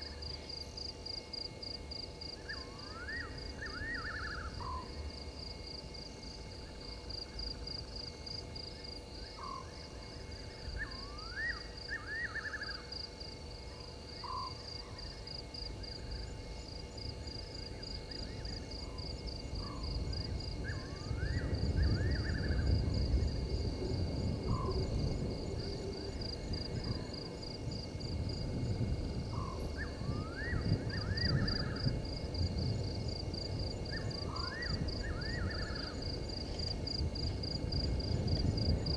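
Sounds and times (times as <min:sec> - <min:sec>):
insect trill: 0:00.0 - 0:38.9.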